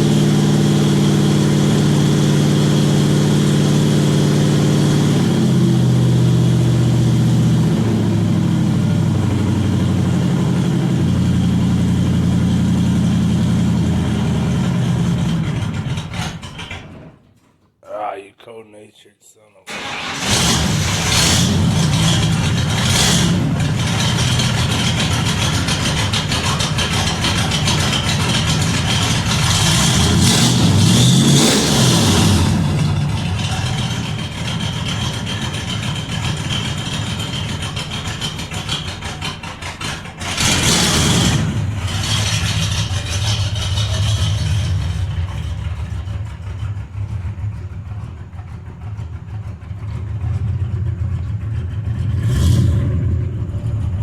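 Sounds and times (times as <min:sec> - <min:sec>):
car engine revving and idling: 0:00.0 - 0:16.8, 0:19.7 - 0:54.0.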